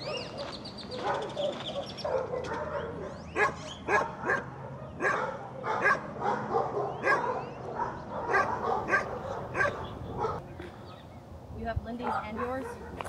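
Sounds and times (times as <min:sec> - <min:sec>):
dogs barking: 0:00.0 - 0:10.5, 0:12.0 - 0:13.0.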